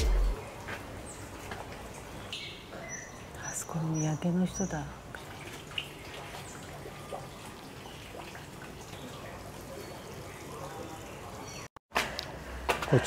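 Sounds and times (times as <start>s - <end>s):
faint trickling water: 0.4s - 11.7s.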